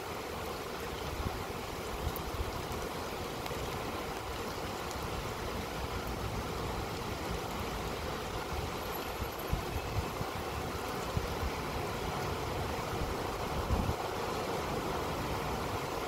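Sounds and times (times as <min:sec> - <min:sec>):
heavy rain pouring: 0:00.0 - 0:16.0
low rumble of wind gusts: 0:01.0 - 0:16.0.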